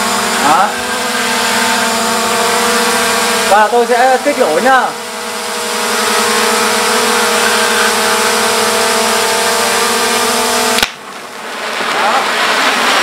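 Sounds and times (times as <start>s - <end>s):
drone propeller whine: 0.0s - 13.0s
rotor wash hiss: 0.0s - 13.0s.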